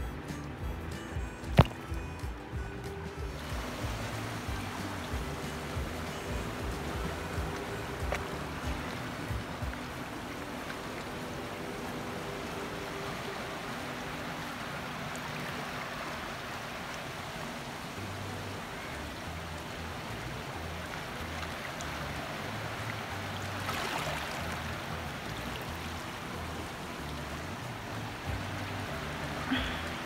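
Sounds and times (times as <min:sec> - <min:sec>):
rushing river water: 0:00.0 - 0:30.0.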